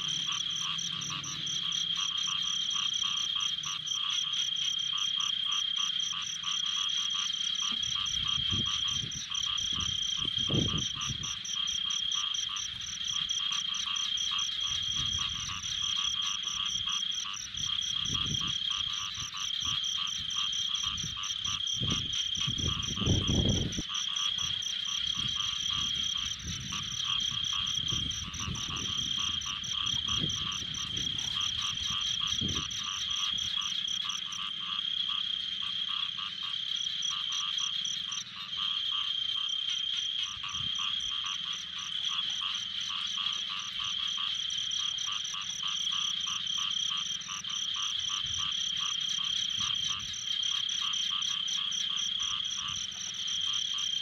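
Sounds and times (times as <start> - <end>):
frogs calling: 0.0 - 54.0.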